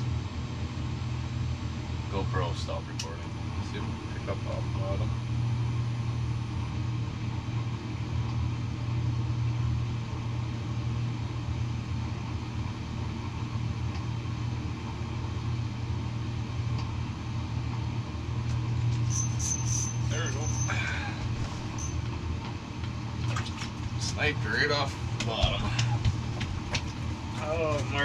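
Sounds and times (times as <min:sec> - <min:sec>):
diesel heater humming: 0:00.0 - 0:28.0.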